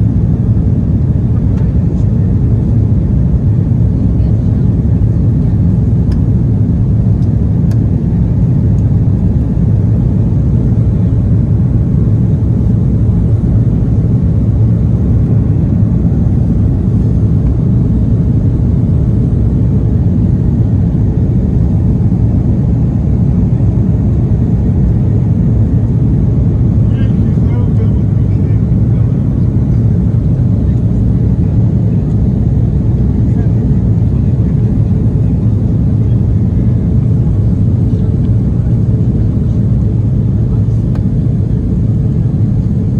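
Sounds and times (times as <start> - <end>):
jet engine cabin rumble: 0.0 - 42.9.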